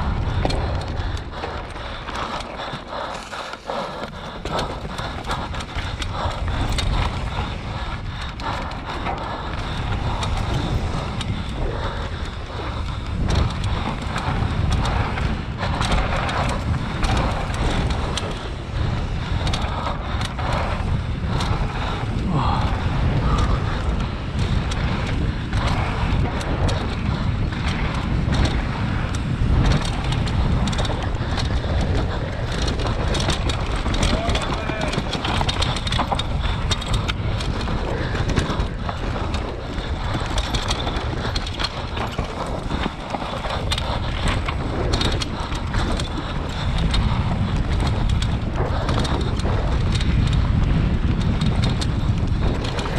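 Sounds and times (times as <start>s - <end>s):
bike knocks and rattles: 0.0s - 52.9s
tyres on dirt and rock: 0.0s - 52.9s
wind rushing over microphone: 0.0s - 52.9s.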